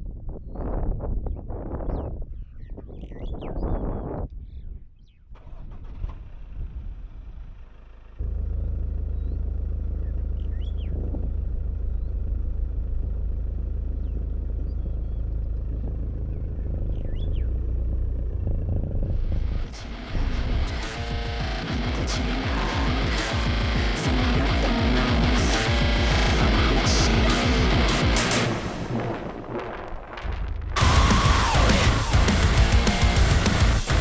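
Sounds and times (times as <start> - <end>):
vehicle rumbling while moving: 6.0 - 34.0.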